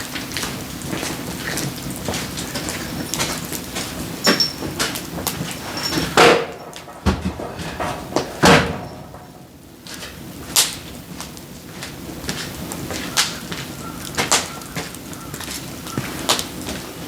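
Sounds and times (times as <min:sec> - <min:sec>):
firewood logs knocking and clattering: 0:00.2 - 0:17.0.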